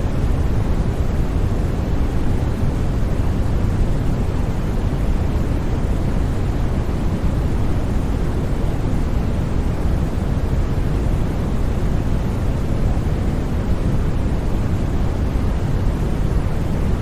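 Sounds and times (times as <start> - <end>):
white noise: 0.0 - 17.0.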